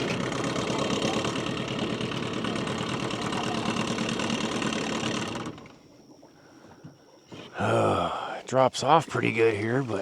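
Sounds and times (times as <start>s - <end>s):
boat motor running: 0.0s - 8.1s.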